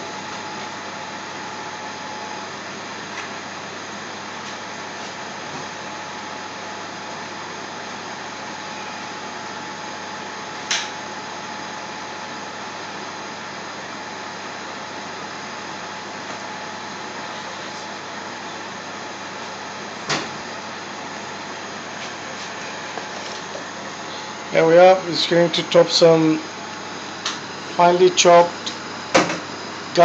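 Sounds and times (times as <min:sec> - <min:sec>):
faint high hum: 0:00.0 - 0:30.0
fan-like whirring hiss: 0:00.0 - 0:30.0.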